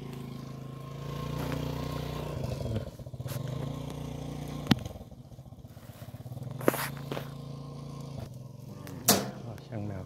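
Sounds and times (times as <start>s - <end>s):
vehicle motor humming: 0.0s - 10.0s.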